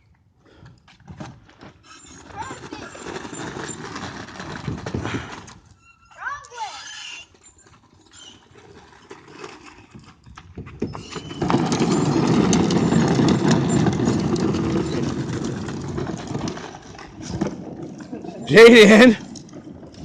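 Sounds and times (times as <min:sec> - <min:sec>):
ride-on toy rolling and rattling: 0:00.5 - 0:20.0.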